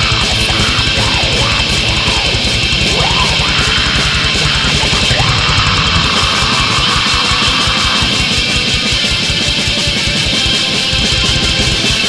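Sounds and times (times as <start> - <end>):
distorted electric guitars: 0.0 - 12.0
fast drumming: 0.0 - 12.0.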